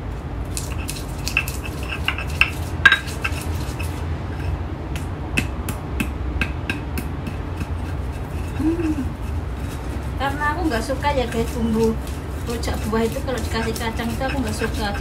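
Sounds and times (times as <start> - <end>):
steady low hum: 0.0 - 15.0
stone pestle grinding and knocking: 0.5 - 15.0.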